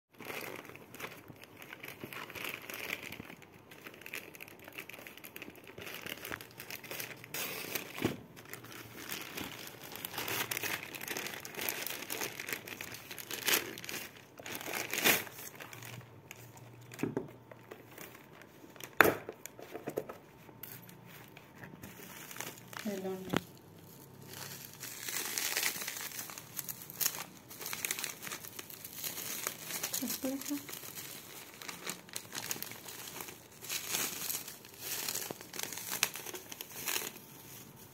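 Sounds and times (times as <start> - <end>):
plastic bags crinkling: 0.2 - 19.8, 20.4 - 37.9.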